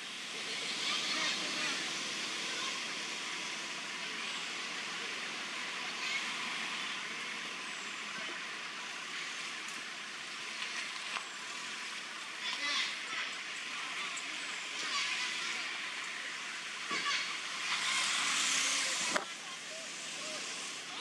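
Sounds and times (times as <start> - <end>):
forest background hiss: 0.0 - 21.0.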